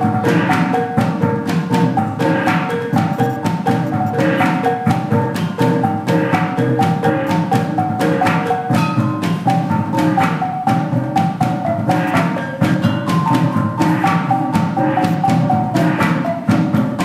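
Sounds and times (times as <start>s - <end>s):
steady drumming: 0.0s - 17.0s
tuned percussion melody: 0.0s - 17.0s.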